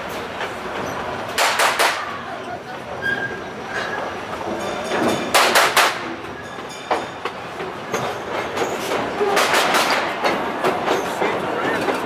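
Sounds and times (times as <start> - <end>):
train wheels clacking on rails: 0.0 - 2.2, 3.0 - 12.0
train rolling noise: 0.0 - 12.0.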